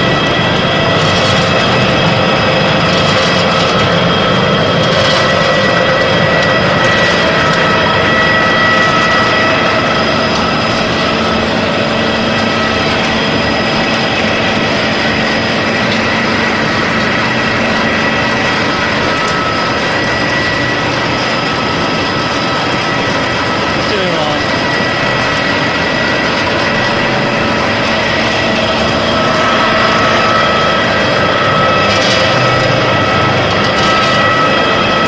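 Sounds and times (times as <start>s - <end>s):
pellet press machine drone: 0.0s - 35.0s
steady whining tones: 0.0s - 35.0s.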